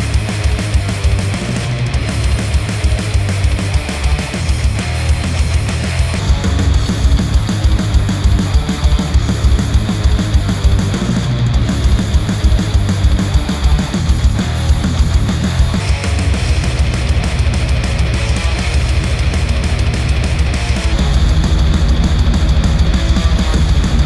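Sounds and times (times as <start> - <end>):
distorted guitars: 0.0 - 24.0
fast dense drumming: 0.0 - 24.0
heavy rock music: 0.0 - 24.0.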